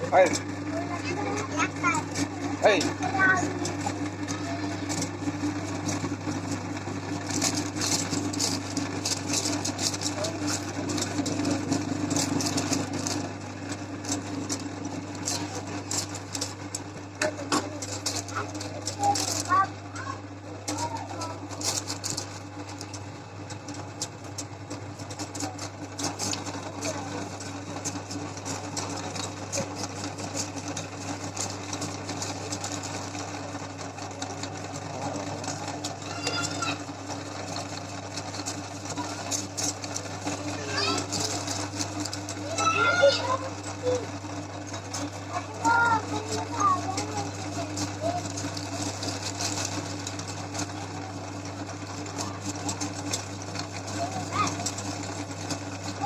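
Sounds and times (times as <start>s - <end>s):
crackling and grinding: 0.0s - 56.0s
meat grinder motor hum: 0.0s - 56.0s.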